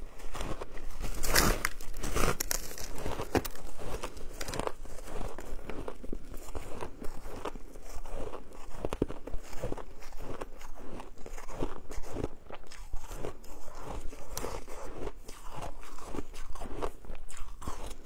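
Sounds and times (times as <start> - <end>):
chewing shaved ice crunches: 0.0 - 18.0.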